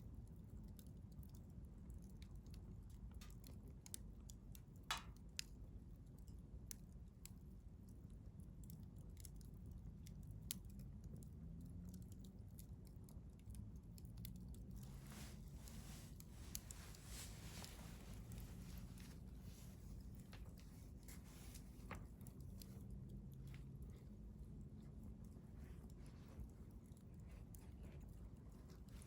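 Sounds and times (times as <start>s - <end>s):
faint low rumble: 0.0s - 29.0s
wood fire crackling: 0.1s - 29.0s.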